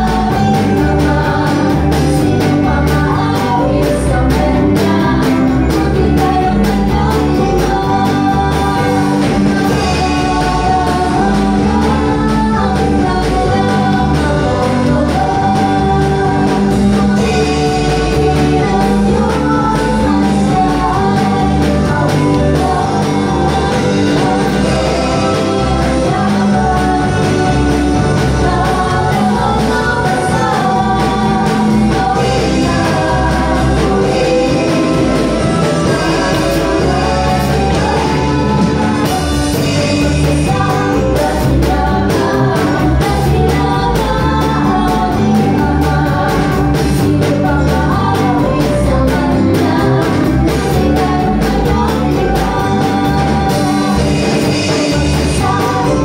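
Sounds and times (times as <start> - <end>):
drum kit: 0.0 - 56.0
electric bass: 0.0 - 56.0
guitar: 0.0 - 56.0
keyboard: 0.0 - 56.0
women singing through microphones: 0.0 - 56.0.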